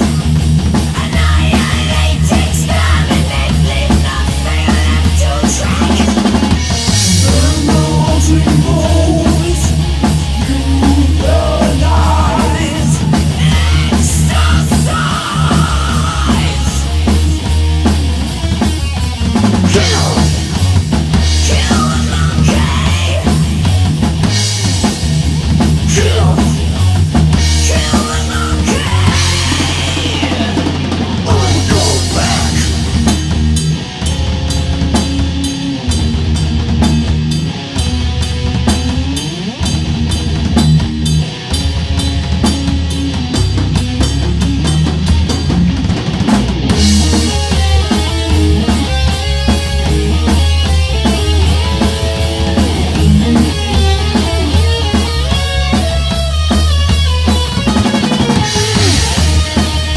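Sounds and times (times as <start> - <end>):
drum kit: 0.0 - 59.9
hard rock song: 0.0 - 59.9.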